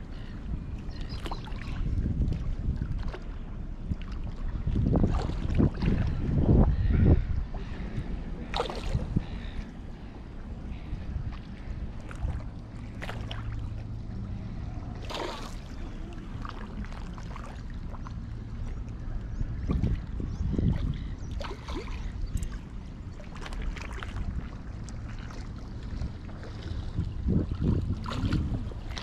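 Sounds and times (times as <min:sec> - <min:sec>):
low steady hum: 0:00.0 - 0:29.0
wind rumbling on microphone: 0:00.0 - 0:29.0
water lapping against rocks: 0:00.2 - 0:09.8, 0:10.7 - 0:29.0.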